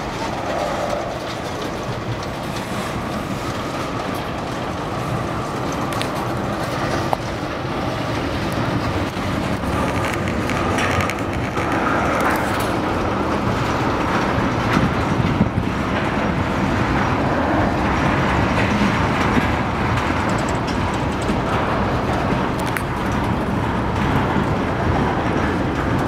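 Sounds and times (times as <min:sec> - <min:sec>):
freight train rolling past: 0:00.0 - 0:26.0
steel wheels on rails: 0:00.0 - 0:26.0.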